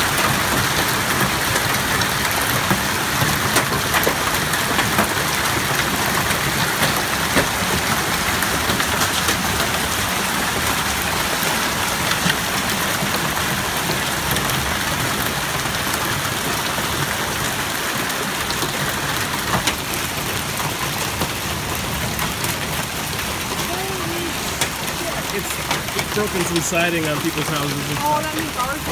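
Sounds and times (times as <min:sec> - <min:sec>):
hail falling: 0:00.0 - 0:28.9
hailstones clicking: 0:00.0 - 0:28.9.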